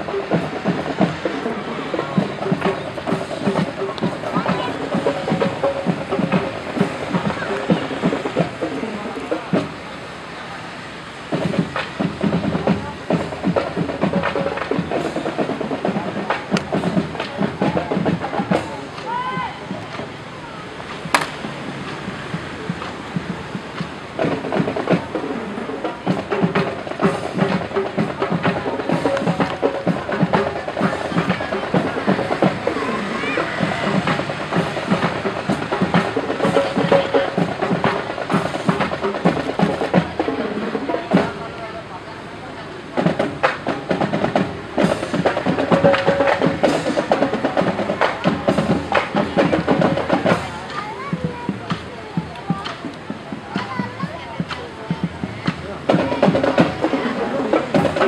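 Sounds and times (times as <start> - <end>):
marching band drums: 0.0 - 58.0.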